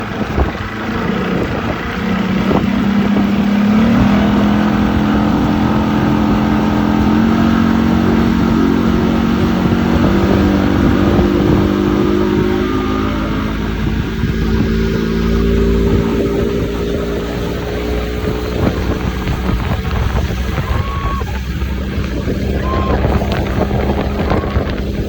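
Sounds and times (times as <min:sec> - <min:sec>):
motorboat engine running: 0:00.0 - 0:25.0
rumbling wind or water: 0:00.0 - 0:25.0.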